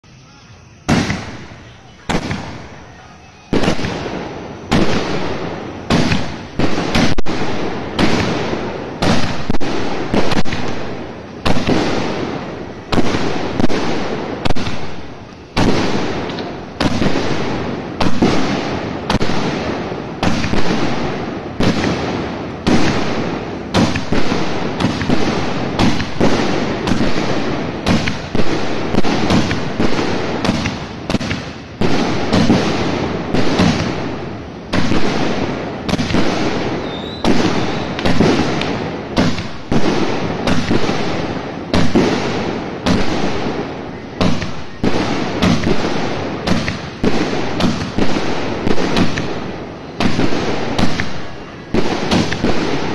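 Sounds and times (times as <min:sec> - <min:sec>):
firework bangs: 0:00.1 - 0:52.9.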